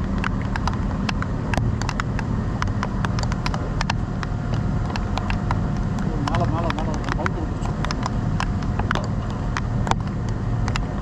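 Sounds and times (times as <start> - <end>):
low machinery drone: 0.0 - 11.0
sharp clicks and ticks: 0.0 - 11.0.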